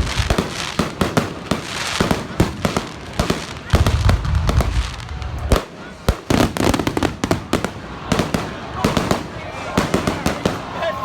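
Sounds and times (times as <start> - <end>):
crackling: 0.0 - 10.7
firecrackers banging: 0.0 - 11.0.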